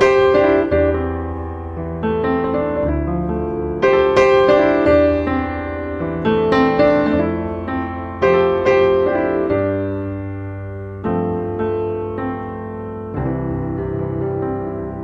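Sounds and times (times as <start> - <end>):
slow gentle piano chords: 0.0 - 15.0.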